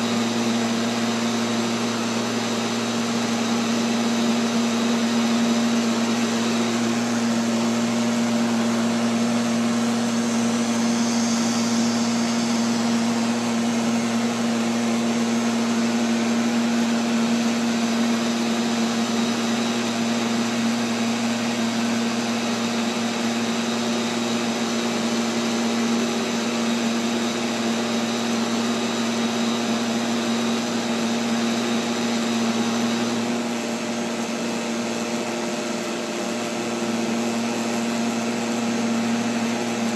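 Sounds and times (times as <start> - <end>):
robotic vacuum cleaner humming: 0.0 - 39.9.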